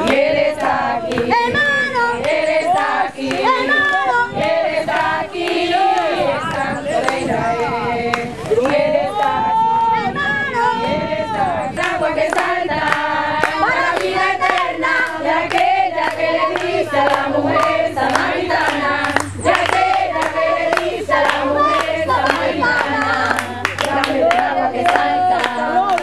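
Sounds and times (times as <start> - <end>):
hand clapping in time: 0.0 - 9.4, 11.8 - 26.0
group singing worship chorus: 0.0 - 26.0.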